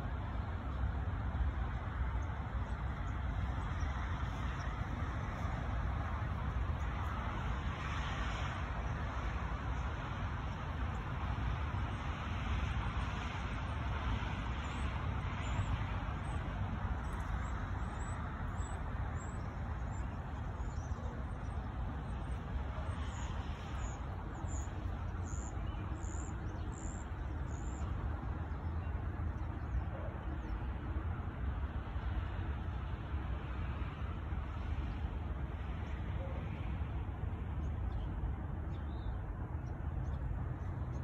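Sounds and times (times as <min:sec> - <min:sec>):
distant road traffic: 0:00.0 - 0:41.0.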